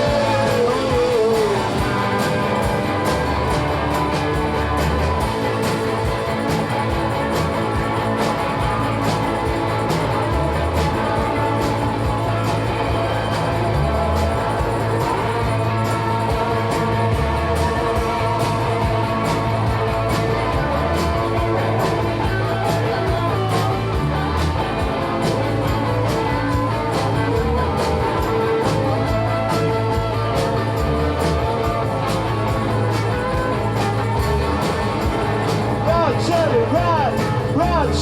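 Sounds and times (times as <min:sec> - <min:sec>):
bass line: 0:00.0 - 0:38.0
driving drums: 0:00.0 - 0:38.0
electric guitars: 0:00.0 - 0:38.0.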